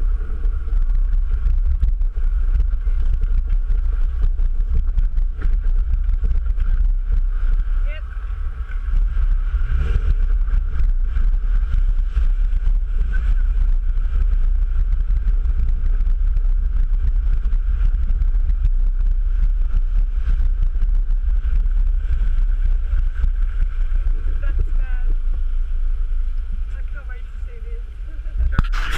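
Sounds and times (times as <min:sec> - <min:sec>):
heavy low rumble: 0:00.0 - 0:28.9
vehicle engine running: 0:00.0 - 0:28.9.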